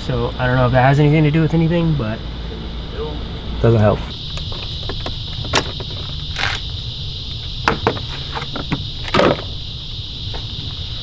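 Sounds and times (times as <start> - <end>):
steady high-pitched buzz: 0.0 - 11.0.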